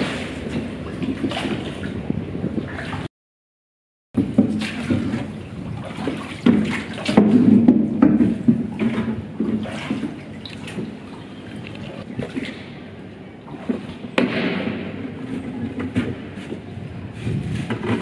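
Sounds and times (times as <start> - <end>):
oars splashing in water: 0.0 - 3.1, 4.2 - 18.0
water dripping and sloshing: 0.0 - 3.1, 4.2 - 18.0.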